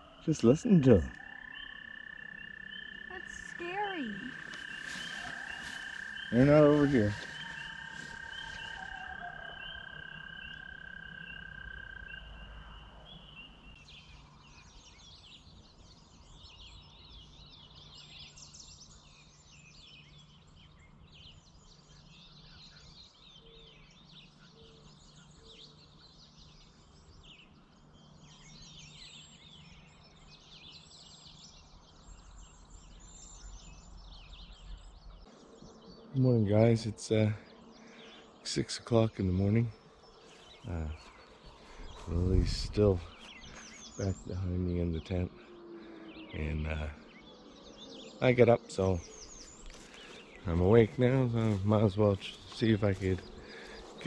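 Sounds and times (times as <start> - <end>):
birds singing and chirping: 0.0 - 54.0.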